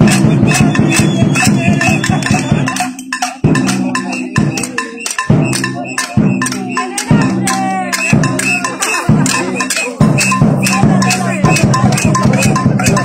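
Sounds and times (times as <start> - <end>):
hand percussion knocking and rattling: 0.0 - 13.0.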